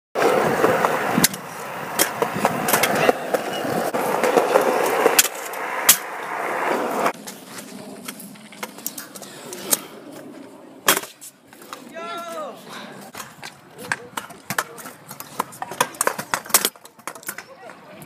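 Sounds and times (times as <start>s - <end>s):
scooter clacking on ground: 0.2s - 10.3s, 13.1s - 18.0s
scooter wheels rolling on concrete: 0.2s - 18.0s.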